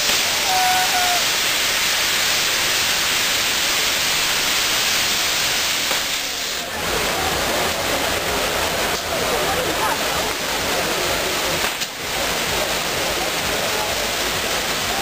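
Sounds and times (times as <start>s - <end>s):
fireworks hissing: 0.0s - 15.0s.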